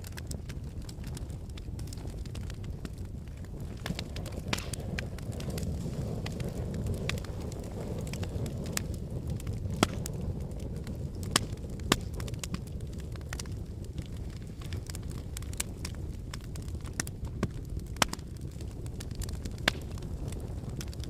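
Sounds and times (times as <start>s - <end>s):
flames rumbling: 0.0s - 21.0s
logs crackling and popping: 0.0s - 21.0s.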